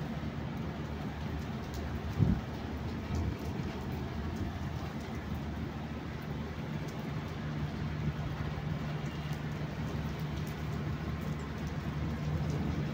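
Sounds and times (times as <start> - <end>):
rain on concrete rooftop: 0.0 - 12.9.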